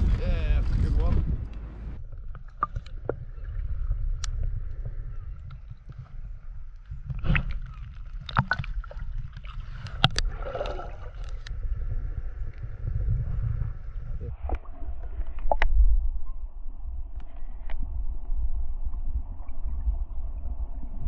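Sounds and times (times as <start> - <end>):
muffled underwater sloshing: 0.0 - 21.0.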